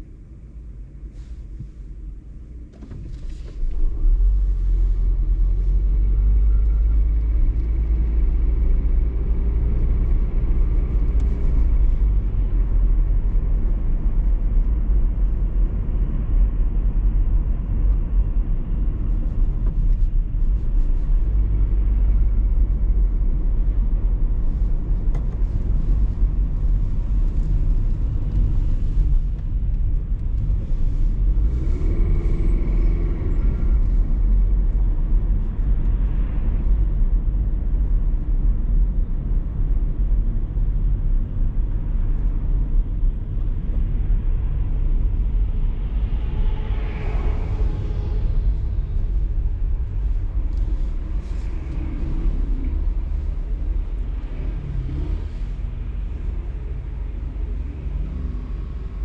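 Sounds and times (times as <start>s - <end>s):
car low rumble: 0.0s - 59.0s.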